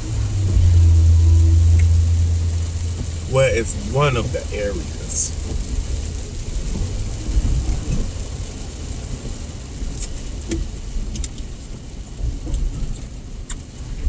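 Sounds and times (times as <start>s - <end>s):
car interior low rumble: 0.0s - 14.0s.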